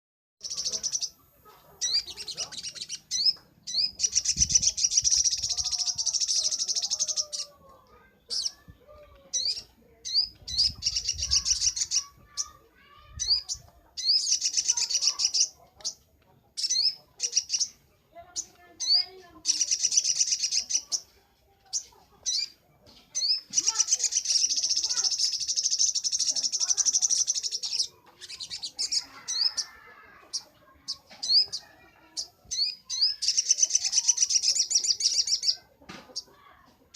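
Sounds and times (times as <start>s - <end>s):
bird chattering: 0.4s - 7.5s, 9.3s - 36.6s.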